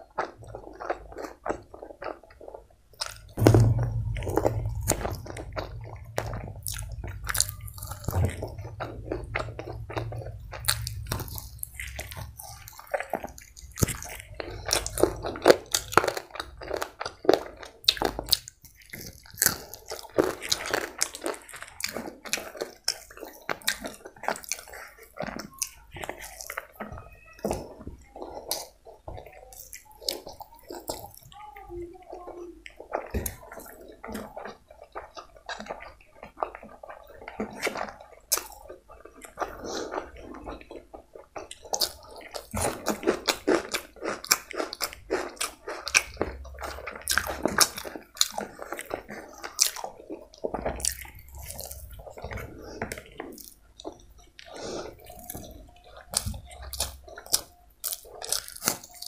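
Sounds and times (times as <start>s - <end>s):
wet chewing and lip-smacking: 0.0s - 59.0s.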